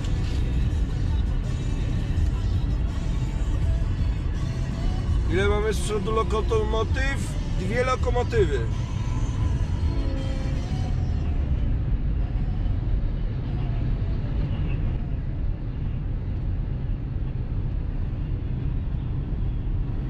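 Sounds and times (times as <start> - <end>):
car cabin road noise: 0.0 - 20.0.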